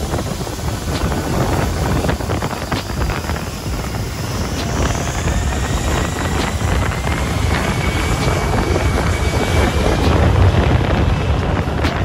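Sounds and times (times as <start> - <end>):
aircraft engine rumble and whine: 0.0 - 12.0
wind on microphone: 0.0 - 12.0.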